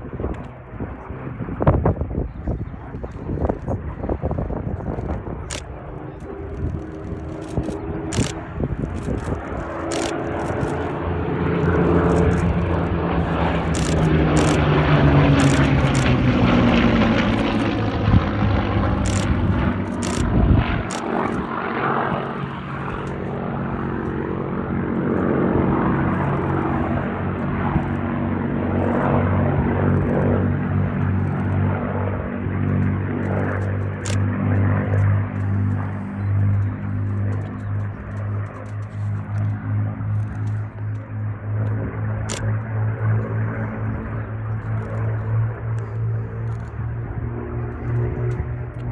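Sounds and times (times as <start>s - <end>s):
propeller plane engine passing: 0.0s - 48.9s.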